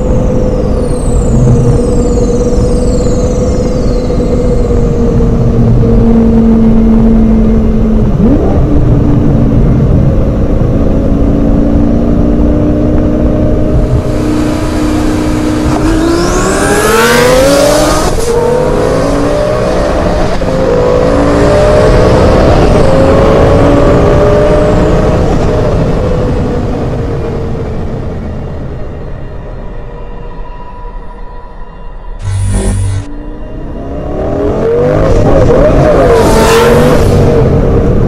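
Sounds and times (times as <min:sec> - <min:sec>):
turbo whine: 0:00.0 - 0:25.9, 0:27.5 - 0:38.0
sports car engine accelerating: 0:00.0 - 0:28.0, 0:32.2 - 0:38.0.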